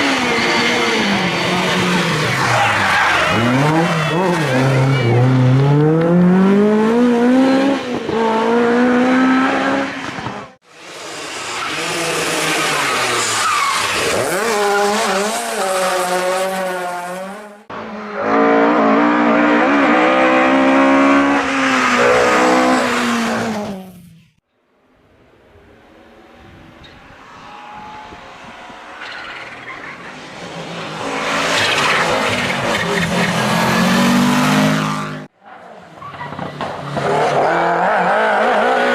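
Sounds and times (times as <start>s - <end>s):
rally car engines revving hard: 0.0s - 24.1s, 27.2s - 35.3s, 36.1s - 38.9s.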